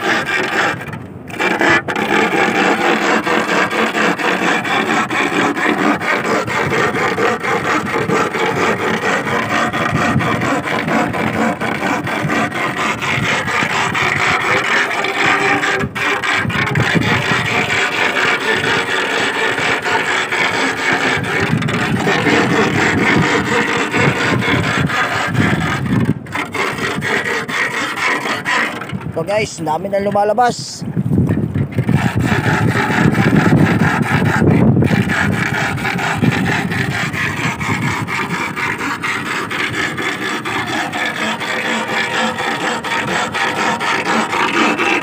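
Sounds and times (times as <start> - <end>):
iron rod rasping: 0.0 - 45.0.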